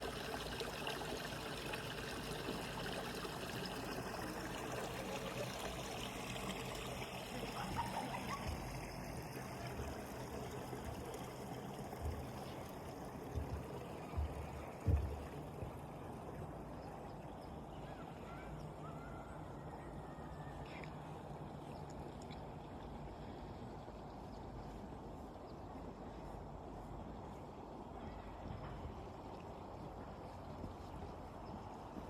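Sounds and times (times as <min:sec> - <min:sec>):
trickle of running water: 0:00.0 - 0:18.8, 0:20.0 - 0:32.0.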